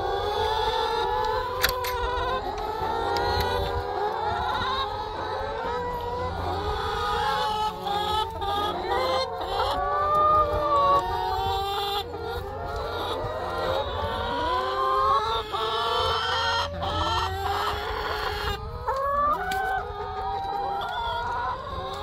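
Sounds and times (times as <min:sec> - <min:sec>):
hens cackling and clucking: 0:00.0 - 0:22.0.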